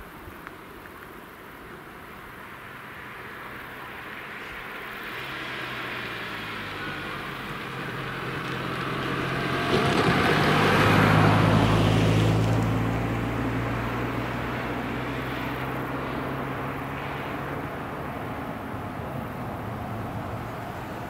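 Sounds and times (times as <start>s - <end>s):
car driving past: 2.8s - 21.0s.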